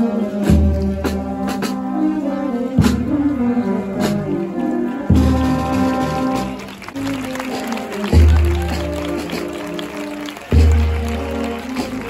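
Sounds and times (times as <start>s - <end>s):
brass holding sustained chords: 0.0s - 12.0s.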